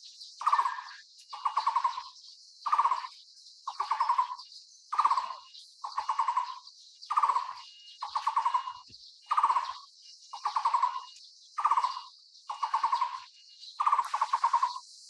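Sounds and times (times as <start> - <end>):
bird calling in trilled notes: 0.4 - 14.9.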